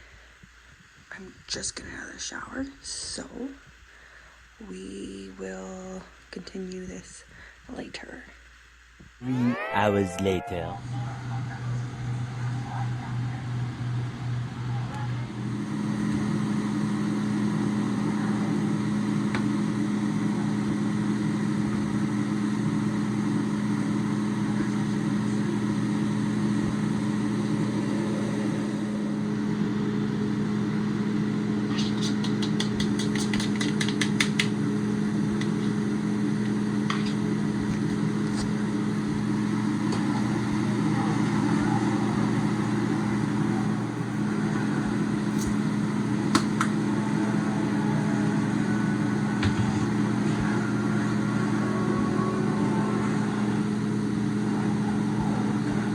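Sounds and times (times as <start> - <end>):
motor hum: 9.2 - 55.9.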